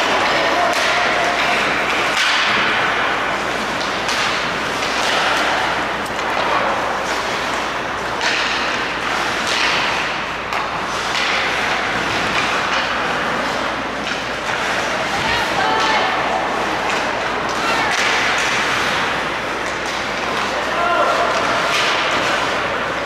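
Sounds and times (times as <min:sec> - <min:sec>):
hockey sticks and puck clicks: 0:00.0 - 0:23.0
skate blades scraping ice: 0:00.0 - 0:23.0.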